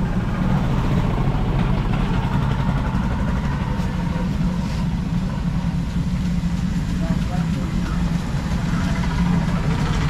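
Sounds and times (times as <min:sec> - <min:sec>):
low engine-like drone: 0:00.0 - 0:10.0.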